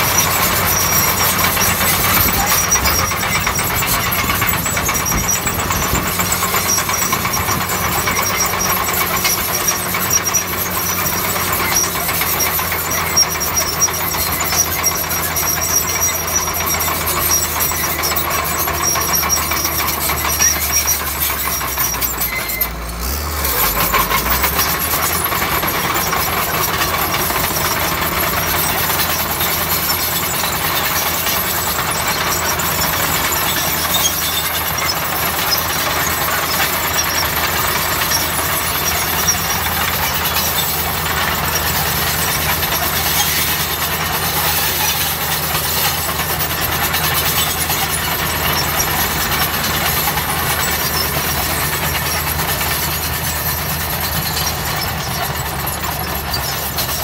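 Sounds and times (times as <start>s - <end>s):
bulldozer diesel engine running: 0.0s - 57.0s
rattle of clicks: 0.0s - 57.0s.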